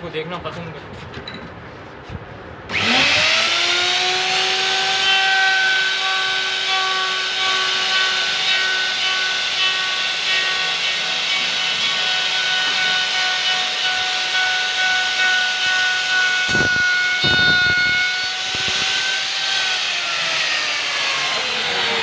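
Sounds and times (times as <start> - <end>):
electric router whining: 2.7 - 22.0.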